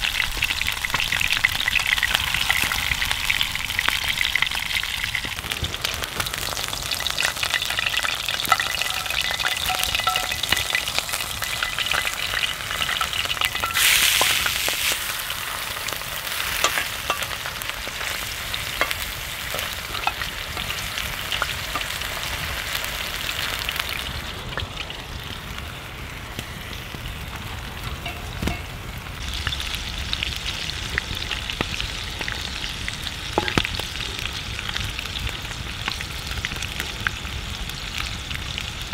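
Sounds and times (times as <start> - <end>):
fire crackling: 0.0 - 38.9
patty sizzling in skillet: 0.0 - 38.9.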